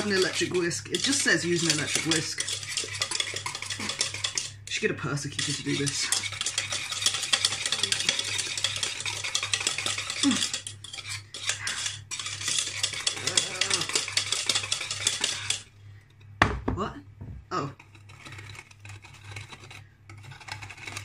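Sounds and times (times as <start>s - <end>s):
whisk clattering in metal pan: 0.0s - 15.7s, 17.8s - 21.0s.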